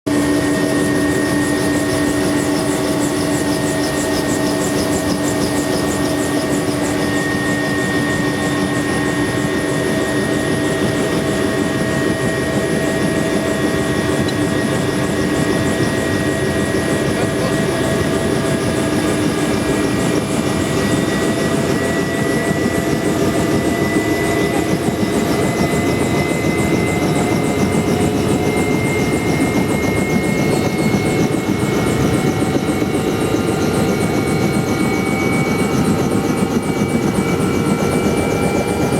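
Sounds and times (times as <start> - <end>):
helicopter rotor beating: 0.1 - 38.9
helicopter turbine whine: 0.1 - 38.9.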